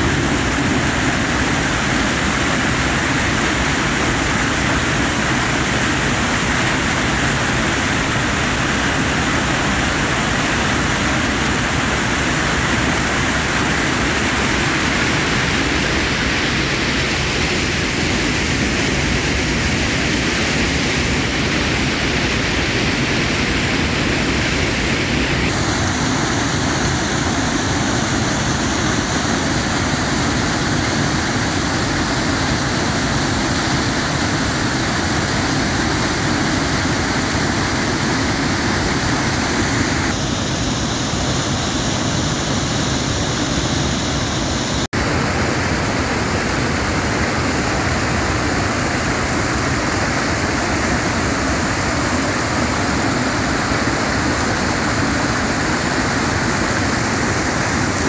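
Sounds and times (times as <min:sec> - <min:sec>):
river rushing over rapids: 0:00.0 - 0:58.0.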